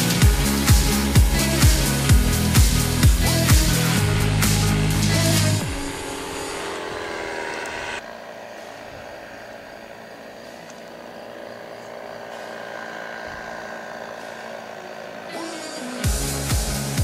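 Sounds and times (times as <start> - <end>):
paramotor engine droning: 0.0 - 17.0.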